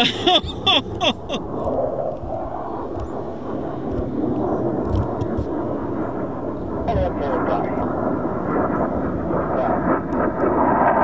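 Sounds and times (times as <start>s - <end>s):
distant jet rumble: 0.0s - 11.0s.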